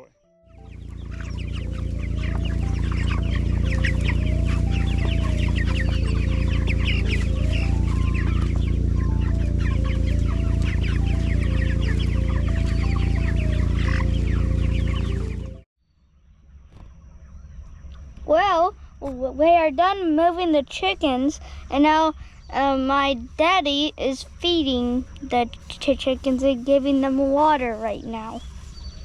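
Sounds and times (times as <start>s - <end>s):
chickens clucking and peeping: 0.0s - 15.6s, 16.7s - 29.0s
steady low rumble: 0.4s - 15.6s, 16.6s - 29.0s.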